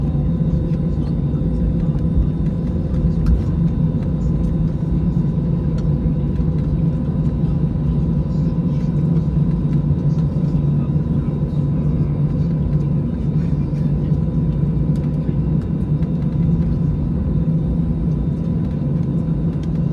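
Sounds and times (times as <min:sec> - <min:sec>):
faint steady engine tones: 0:00.0 - 0:19.9
jet engines rumbling: 0:00.0 - 0:19.9.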